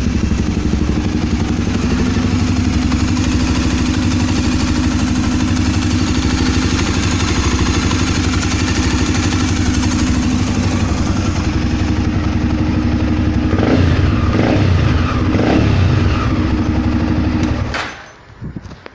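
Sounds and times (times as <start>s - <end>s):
motorcycle engine revving: 0.0s - 17.9s
motorcycle engine idling: 0.0s - 18.6s.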